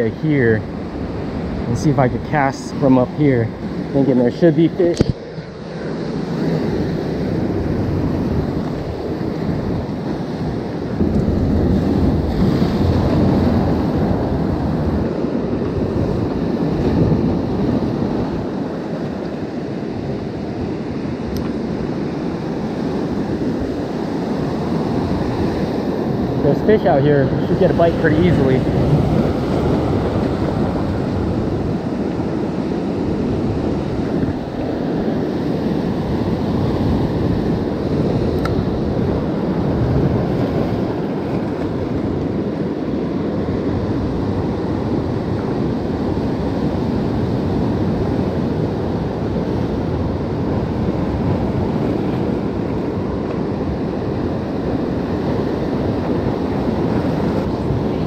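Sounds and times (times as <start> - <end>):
surf washing against rocks: 0.0 - 58.0
wind across microphone: 0.0 - 58.0.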